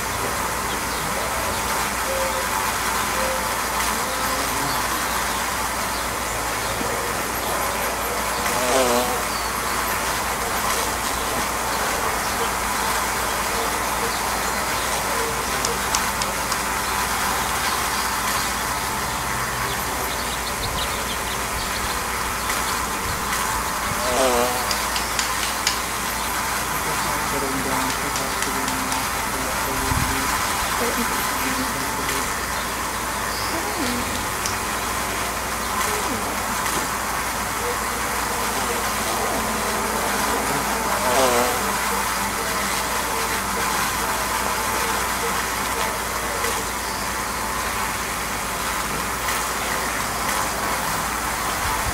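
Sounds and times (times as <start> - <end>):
bee buzzing close by: 0.0 - 51.9
bee swarm buzzing: 0.0 - 51.9.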